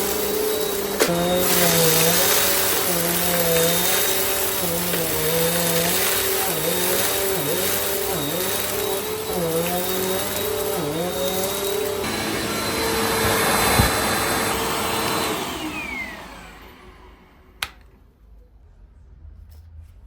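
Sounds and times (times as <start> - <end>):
vacuum cleaner running: 0.0 - 17.8.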